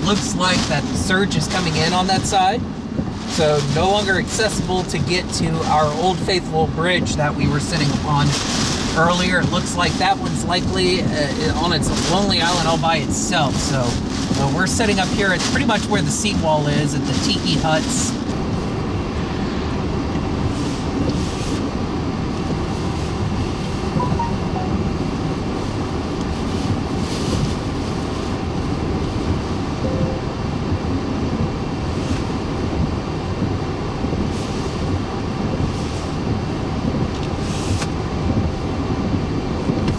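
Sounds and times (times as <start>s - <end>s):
hurricane wind low rumble: 0.0s - 39.9s.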